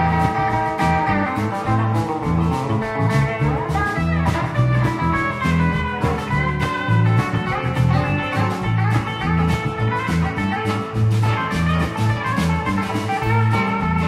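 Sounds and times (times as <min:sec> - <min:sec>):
bass line: 0:00.0 - 0:14.0
drum kit: 0:00.0 - 0:14.0
electric guitars: 0:00.0 - 0:14.0.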